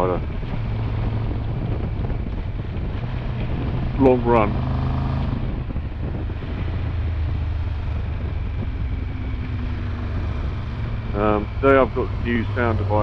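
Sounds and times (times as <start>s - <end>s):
motorcycle engine running: 0.0s - 13.0s
road noise: 0.0s - 13.0s
wind noise: 0.0s - 13.0s.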